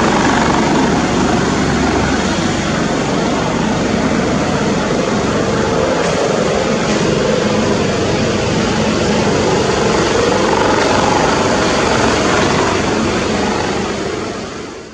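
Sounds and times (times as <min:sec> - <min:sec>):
helicopter taking off: 0:00.0 - 0:14.9.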